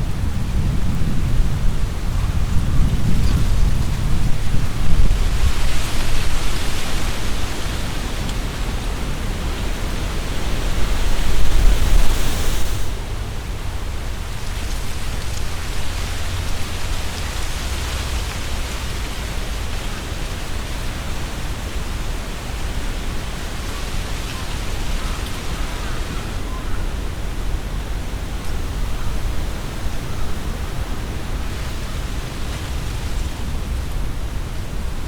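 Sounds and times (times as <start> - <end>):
wind buffeting microphone: 0.0 - 35.0
wind hissing through tree leaves: 0.0 - 35.0.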